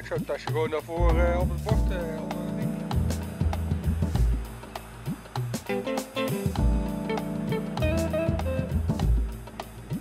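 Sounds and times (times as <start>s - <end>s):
band music with guitar and drums: 1.0s - 10.0s.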